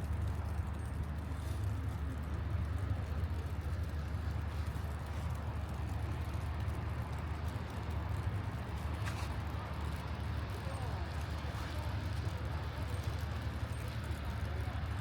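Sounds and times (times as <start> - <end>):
city background noise: 0.0 - 15.0.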